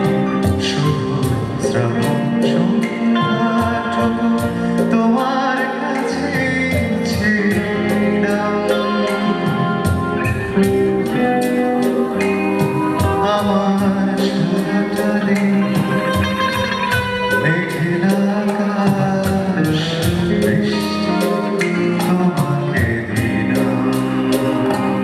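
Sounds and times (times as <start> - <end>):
song with singing and beat: 0.0 - 25.0.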